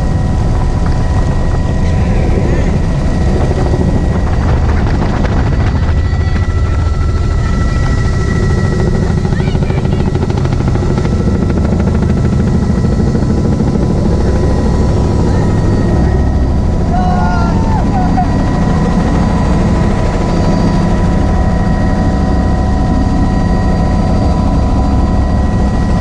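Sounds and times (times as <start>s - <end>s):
helicopter rotor thrum: 0.0s - 26.0s
high engine whine: 0.0s - 26.0s.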